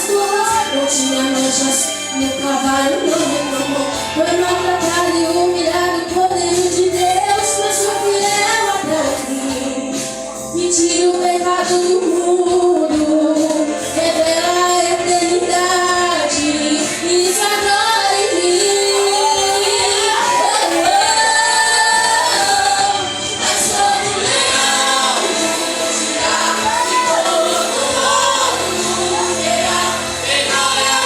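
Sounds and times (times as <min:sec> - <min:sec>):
instrumental accompaniment: 0:00.0 - 0:31.0
women singing slow worship song: 0:00.0 - 0:31.0.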